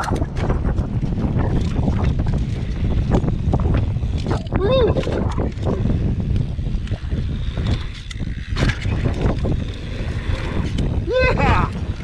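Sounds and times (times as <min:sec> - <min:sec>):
bike rattling: 0:00.0 - 0:12.0
sharp clatter: 0:00.0 - 0:12.0
wind buffeting microphone: 0:00.0 - 0:12.0.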